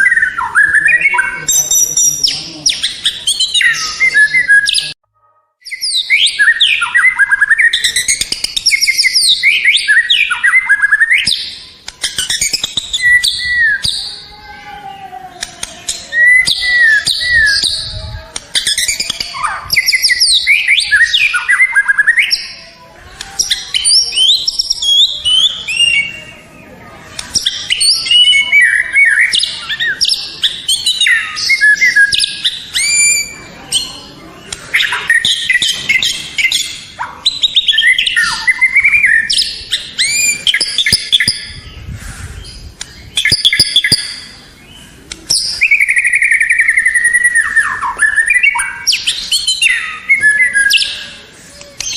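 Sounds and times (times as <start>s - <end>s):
bird singing whistled phrases: 0.0s - 5.0s, 5.6s - 14.3s, 15.4s - 22.6s, 23.4s - 26.6s, 27.2s - 51.9s.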